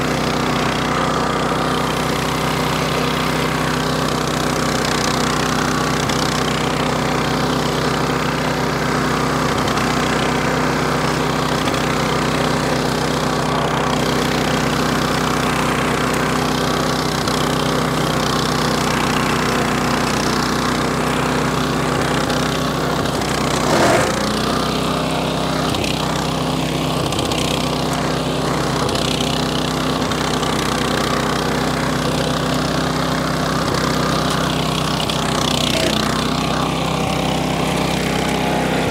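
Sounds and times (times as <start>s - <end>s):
flail mower cutting grass: 0.0s - 38.9s.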